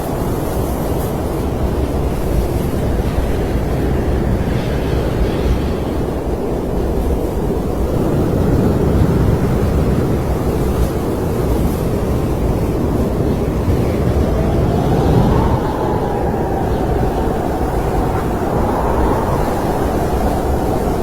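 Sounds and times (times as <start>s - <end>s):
snowstorm wind blowing: 0.0s - 21.0s.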